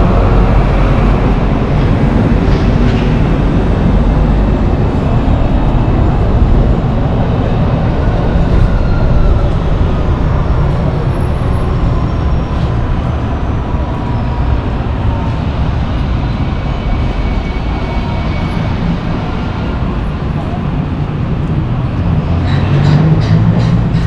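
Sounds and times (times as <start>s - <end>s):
metro train rumbling: 0.0s - 24.0s.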